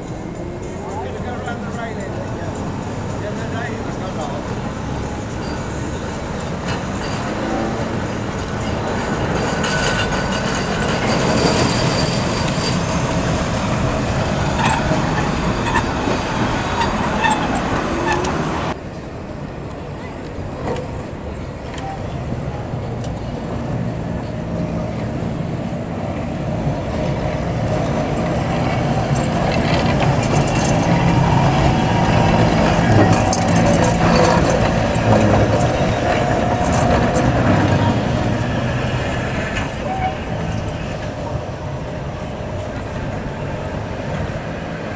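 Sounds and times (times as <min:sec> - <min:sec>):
background voices: 0:00.0 - 0:18.8, 0:19.8 - 0:44.9
electric tram motor and rail noise: 0:00.0 - 0:44.9
high rail squeals: 0:00.0 - 0:44.9.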